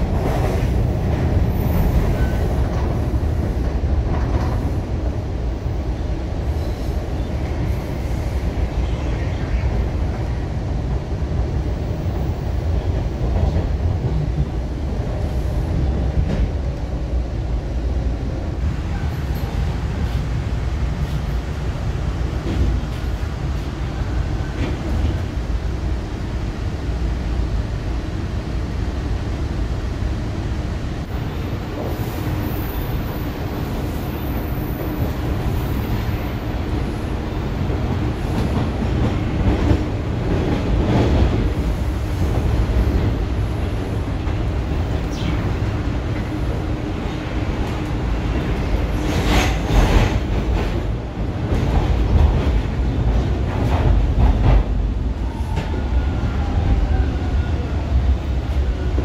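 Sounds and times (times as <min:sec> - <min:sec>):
subway train running rumble: 0:00.0 - 0:59.0.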